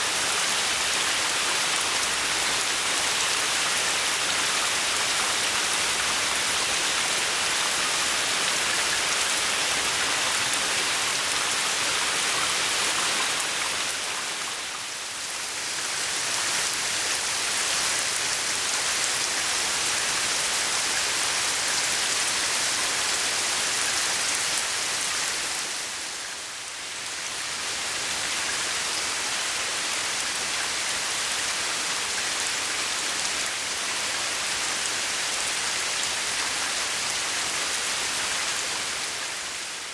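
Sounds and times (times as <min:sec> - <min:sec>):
heavy rain on pond: 0:00.0 - 0:39.9.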